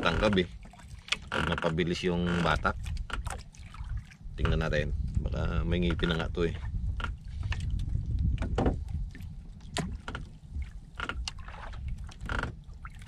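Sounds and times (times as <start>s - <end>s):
wind and water rumble around boat: 0.0s - 13.0s.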